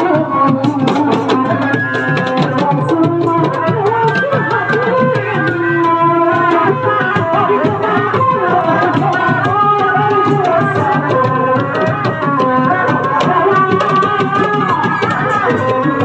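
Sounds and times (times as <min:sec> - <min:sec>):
drums beating: 0:00.0 - 0:16.0.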